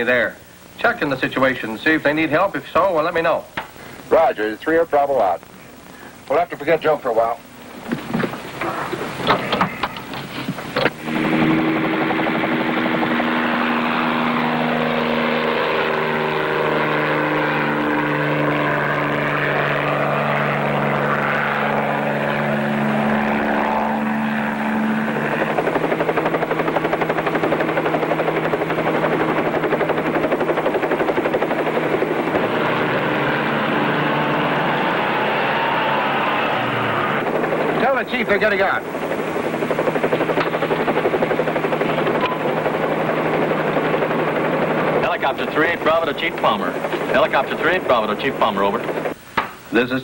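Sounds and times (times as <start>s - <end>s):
helicopter engine drone: 0.0s - 50.0s
helicopter rotor chopping: 0.0s - 50.0s.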